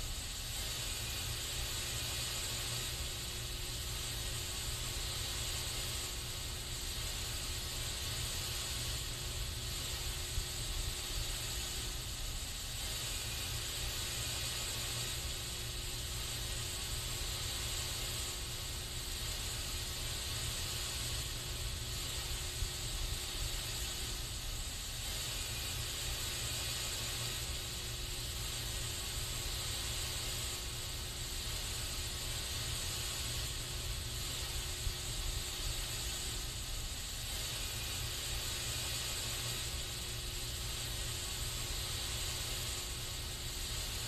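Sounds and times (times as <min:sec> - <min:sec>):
aerosol spray hiss: 0:00.0 - 0:44.0.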